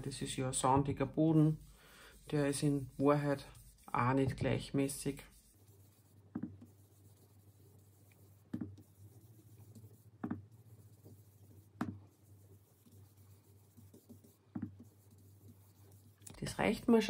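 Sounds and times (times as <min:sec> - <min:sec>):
brush on paper: 0:00.0 - 0:17.0
soft brush taps: 0:00.2 - 0:17.0.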